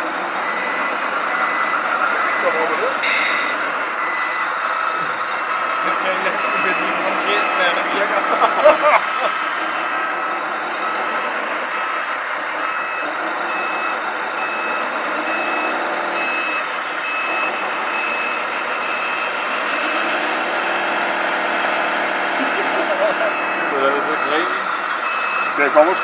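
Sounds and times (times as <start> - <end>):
engine-like drone: 0.0 - 26.0
reversing alarm beeping: 0.4 - 26.0.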